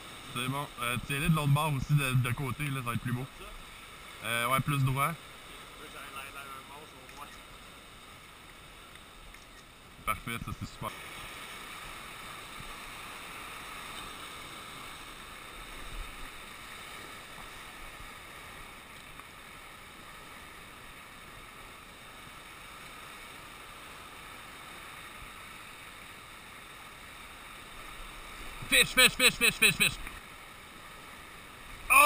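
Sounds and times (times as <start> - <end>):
surf washing over rocks: 0.0 - 32.0.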